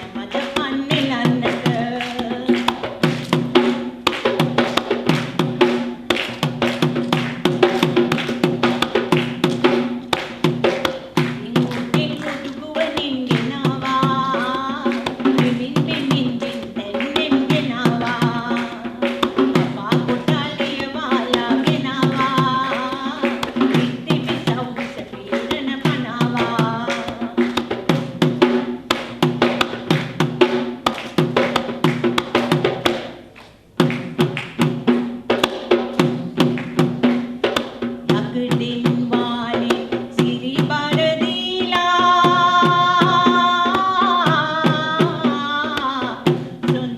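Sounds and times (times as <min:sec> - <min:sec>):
drums in a fast rhythm: 0:00.0 - 0:46.9.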